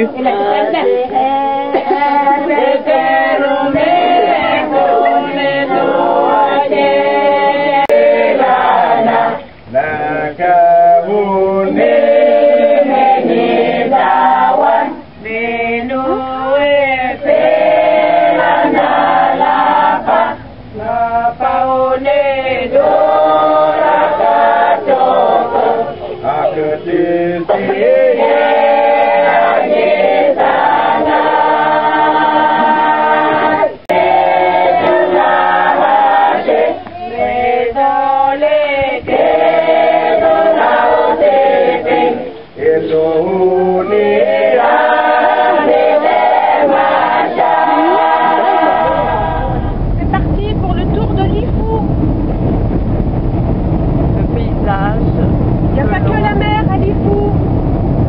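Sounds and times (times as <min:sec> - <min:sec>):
mixed choir singing unaccompanied: 0:00.0 - 0:52.5.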